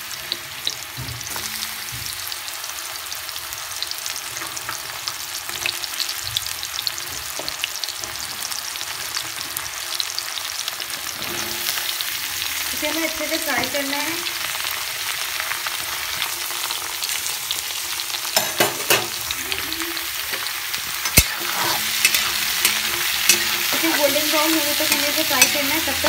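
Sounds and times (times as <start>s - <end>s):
mushrooms sizzling in oil: 0.0s - 26.0s.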